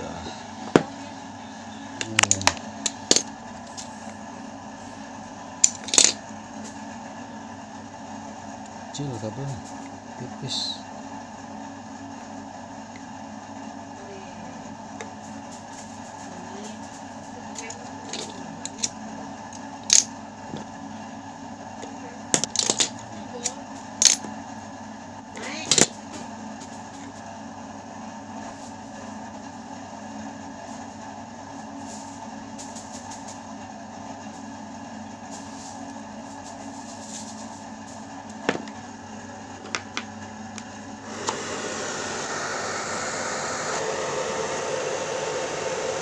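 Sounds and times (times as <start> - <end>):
low background hum: 0.0 - 41.1.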